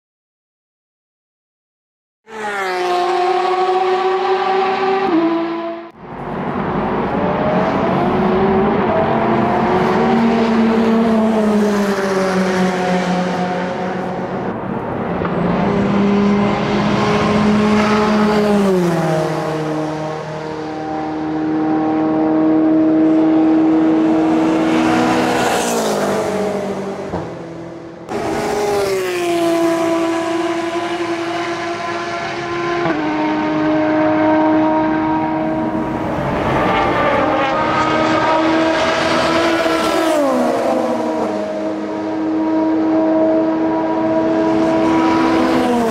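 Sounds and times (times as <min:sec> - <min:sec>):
race car engines at speed: 0:02.3 - 0:45.9.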